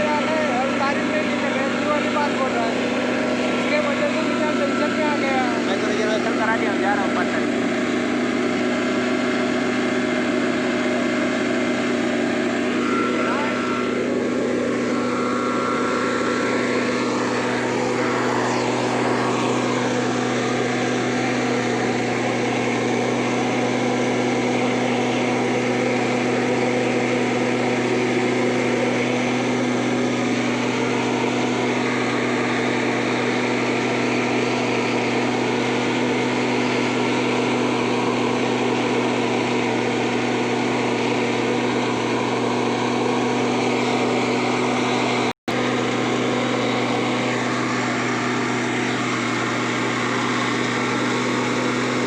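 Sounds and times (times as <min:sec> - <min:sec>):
small engine humming: 0:00.0 - 0:52.0.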